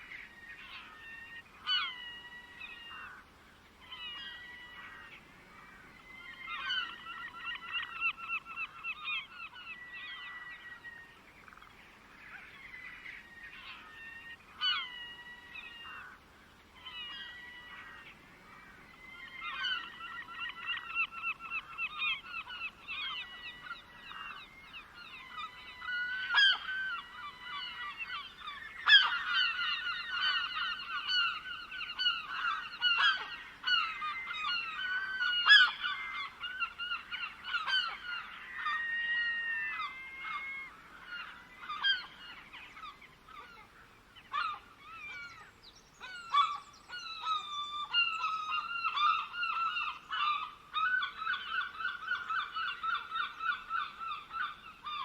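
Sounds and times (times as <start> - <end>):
flock of birds calling: 0.0 - 55.0.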